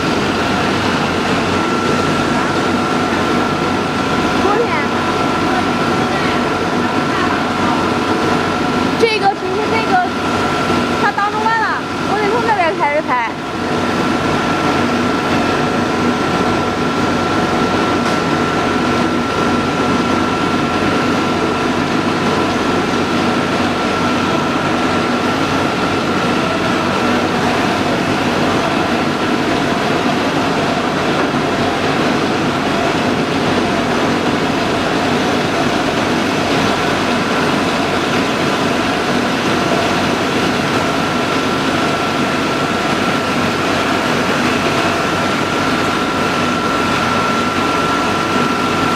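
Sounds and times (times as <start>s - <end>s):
high mechanical whine: 0.0s - 48.9s
loud machinery running: 0.0s - 48.9s.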